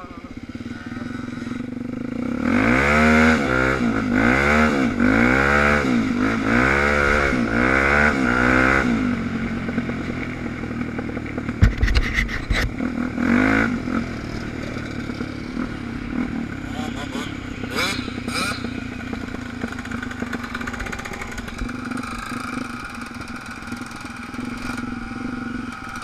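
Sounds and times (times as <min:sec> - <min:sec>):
dirt bike engine revving: 0:00.0 - 0:11.4, 0:12.3 - 0:26.0.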